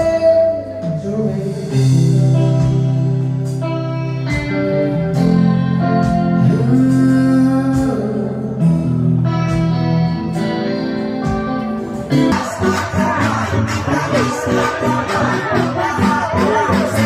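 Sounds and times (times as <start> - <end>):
bass: 0.0 - 17.0
busy noisy music: 0.0 - 17.0
guitar sustained notes: 0.0 - 17.0.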